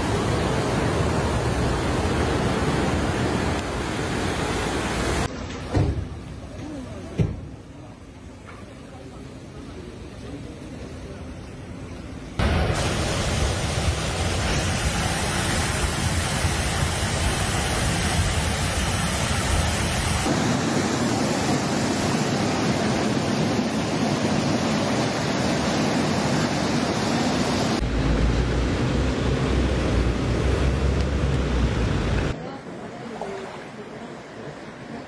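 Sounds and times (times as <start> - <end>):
floodwater rushing: 0.0 - 5.7, 12.4 - 35.0.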